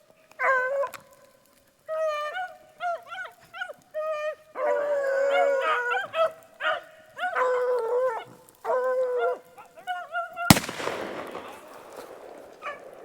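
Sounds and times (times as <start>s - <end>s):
beagles baying: 0.3s - 13.0s.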